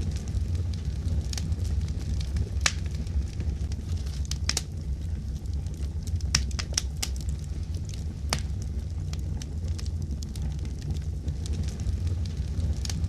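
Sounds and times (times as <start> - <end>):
fire flames rumbling: 0.0 - 13.0
wood fire crackling and popping: 0.0 - 13.0.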